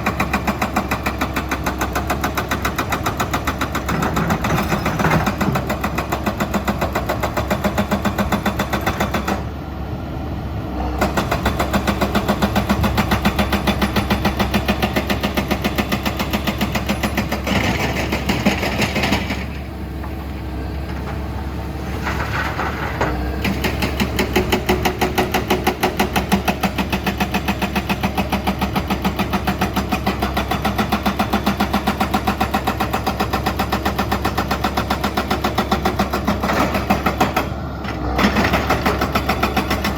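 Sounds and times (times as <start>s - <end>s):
excavator diesel engine clattering: 0.0s - 9.8s, 10.9s - 39.9s.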